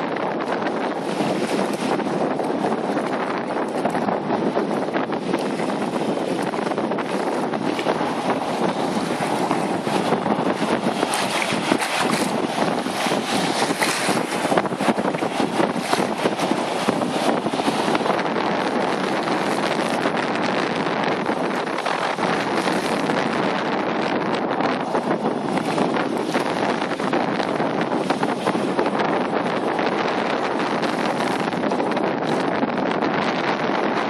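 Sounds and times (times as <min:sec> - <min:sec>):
surf splashing around boots: 0:00.0 - 0:34.0
wind on microphone: 0:00.0 - 0:34.0.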